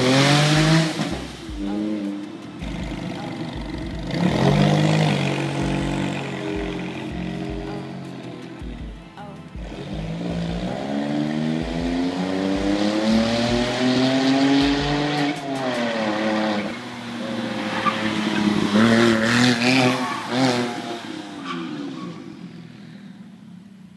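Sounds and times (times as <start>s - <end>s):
car engine driven hard: 0.0s - 23.9s
exhaust crackles: 0.0s - 23.9s.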